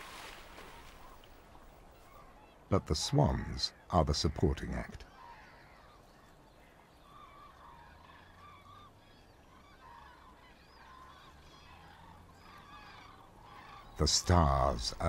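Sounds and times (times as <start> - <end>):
swans and geese honking: 0.0 - 3.8, 5.1 - 15.0.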